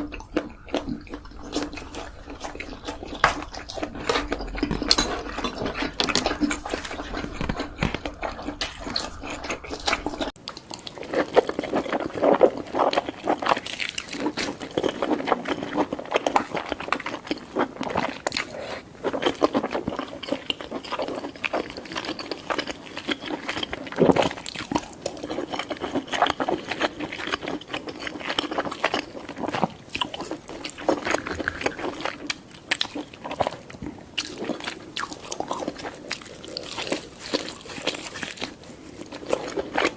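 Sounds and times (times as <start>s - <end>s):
wet chewing and mouth sounds: 0.0s - 39.9s.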